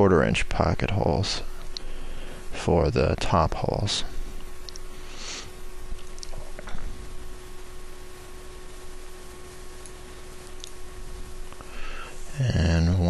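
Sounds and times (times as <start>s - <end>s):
microphone hiss and hum: 0.0s - 13.0s.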